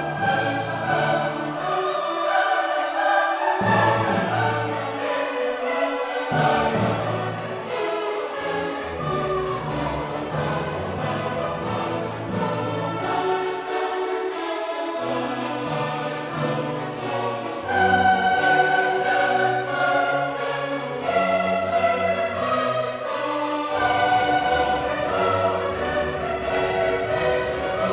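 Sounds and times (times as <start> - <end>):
choir singing with orchestra: 0.0 - 27.9.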